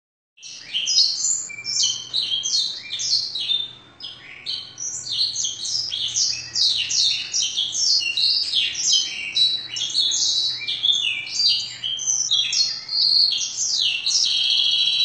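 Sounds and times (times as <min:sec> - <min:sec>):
canary singing: 0:00.4 - 0:15.0.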